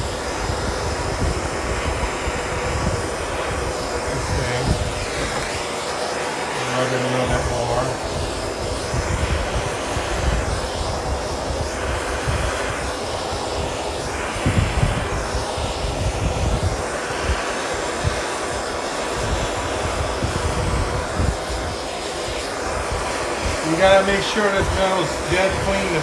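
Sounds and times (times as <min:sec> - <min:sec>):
gas torch burning: 0:00.0 - 0:26.0.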